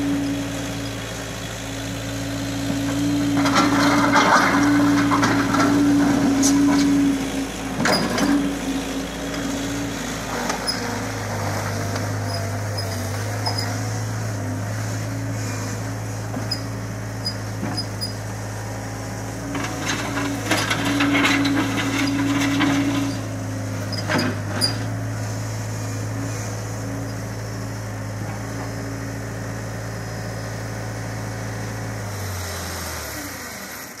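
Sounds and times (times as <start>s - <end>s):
skid steer loader engine running: 0.0s - 34.0s.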